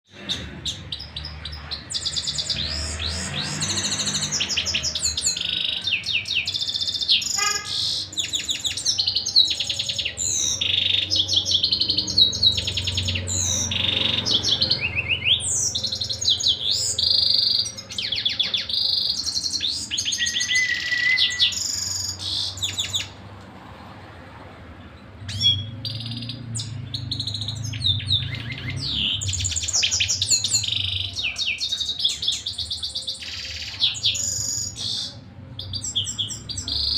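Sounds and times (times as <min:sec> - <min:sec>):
canary singing trills: 0:00.1 - 0:23.2, 0:25.0 - 0:36.9.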